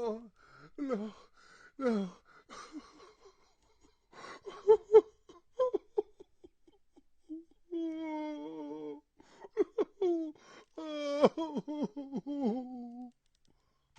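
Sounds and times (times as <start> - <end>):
man sobbing and wailing: 0.0 - 13.1.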